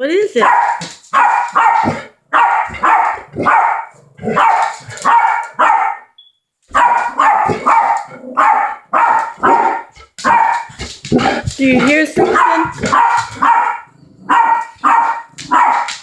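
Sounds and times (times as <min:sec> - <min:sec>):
dogs barking: 0:00.4 - 0:06.1, 0:06.7 - 0:16.0.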